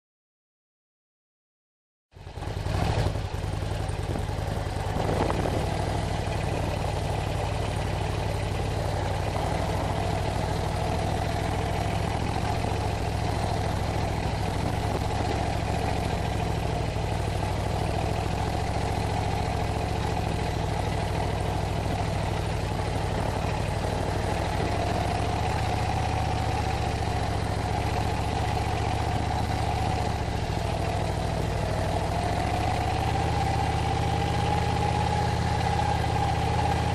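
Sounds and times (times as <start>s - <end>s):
motorcycle engine running at low revs: 2.2s - 36.9s.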